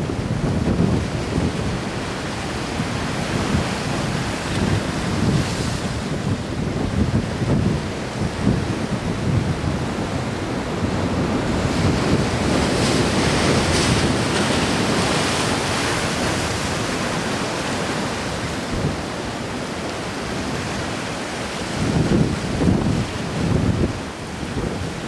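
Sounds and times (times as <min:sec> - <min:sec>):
surf washing against breakwater: 0:00.0 - 0:25.0
wind buffeting microphone: 0:00.0 - 0:25.0.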